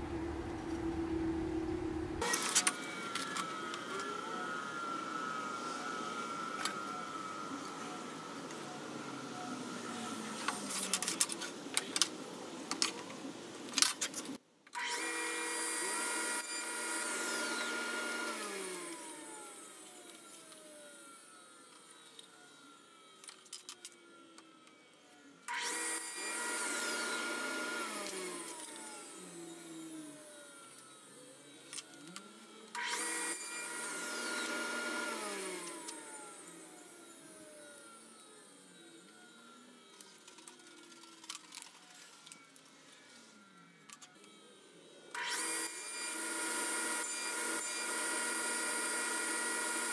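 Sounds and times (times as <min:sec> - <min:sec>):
table saw running: 0:00.0 - 0:10.8, 0:14.8 - 0:23.2, 0:25.5 - 0:41.7, 0:43.0 - 0:49.9
saw blade coasting down whine: 0:00.0 - 0:10.9, 0:14.8 - 0:23.3, 0:24.3 - 0:49.9.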